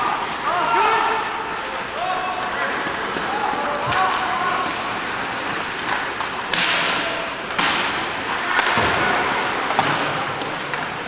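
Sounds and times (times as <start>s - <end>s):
skates on ice: 0.0s - 11.0s.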